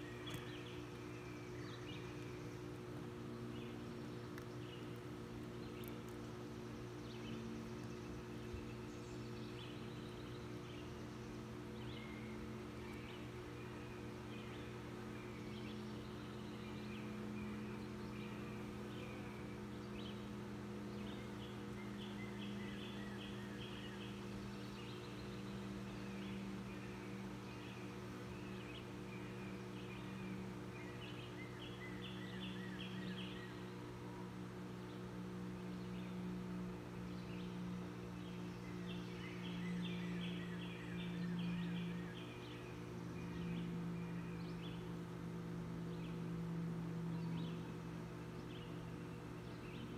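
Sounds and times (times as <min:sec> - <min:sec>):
bird chirping: 0:00.0 - 0:34.2, 0:34.8 - 0:49.9
honey bees humming: 0:00.0 - 0:49.9.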